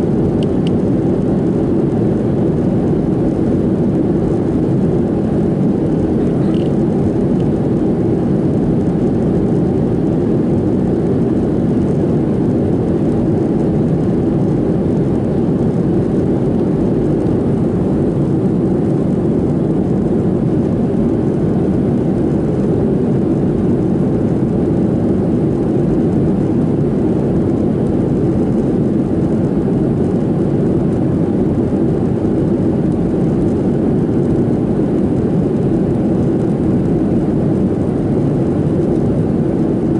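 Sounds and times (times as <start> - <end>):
airflow rushing in aircraft cabin: 0.0 - 39.9
jet engines humming: 0.0 - 39.9.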